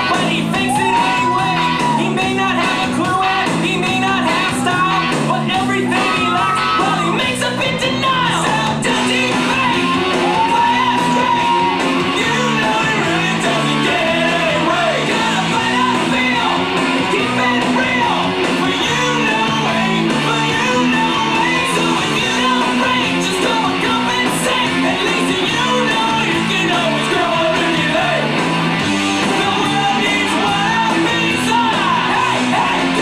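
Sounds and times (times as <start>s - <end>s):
pop music with sung vocal: 0.0s - 33.0s.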